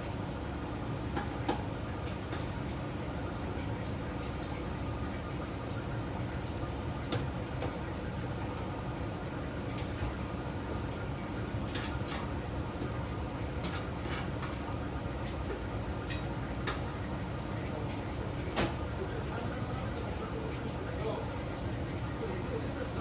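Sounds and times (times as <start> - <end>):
gas wok range and exhaust hood rumble: 0.0 - 23.0.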